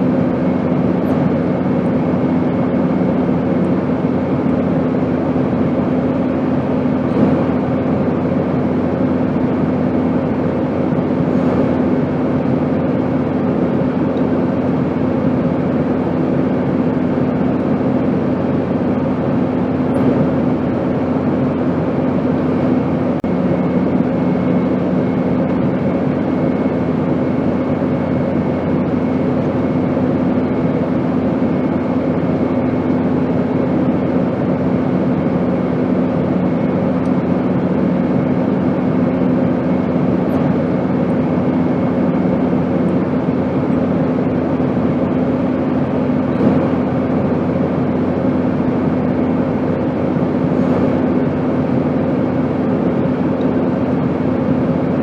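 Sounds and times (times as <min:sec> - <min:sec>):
airplane drone: 0:00.0 - 0:55.0
constant humming tones: 0:00.0 - 0:55.0.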